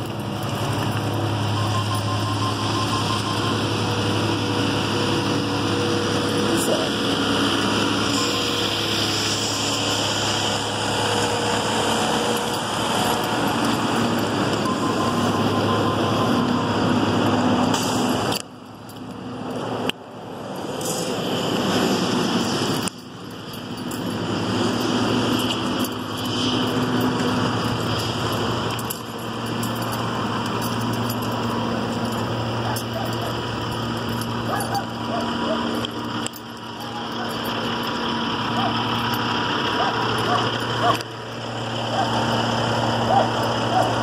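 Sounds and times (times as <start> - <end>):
road noise: 0.0 - 44.0
truck engines humming: 0.0 - 44.0.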